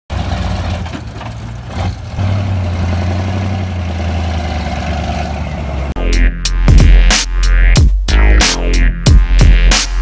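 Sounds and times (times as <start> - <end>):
diesel engine droning: 0.1 - 9.0.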